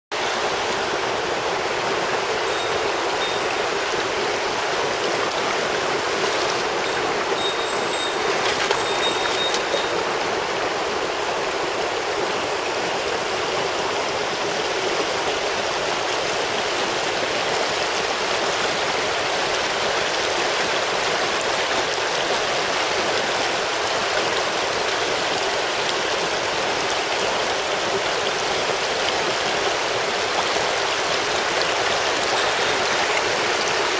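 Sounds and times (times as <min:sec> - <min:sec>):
stream flowing over rocks: 0:00.1 - 0:33.9.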